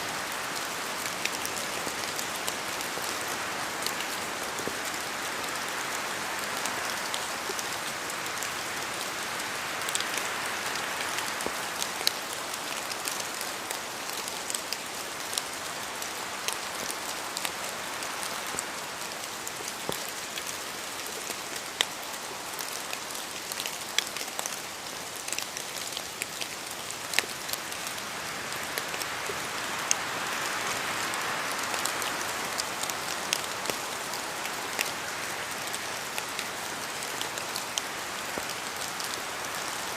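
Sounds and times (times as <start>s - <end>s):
rain falling through trees: 0.0s - 39.9s.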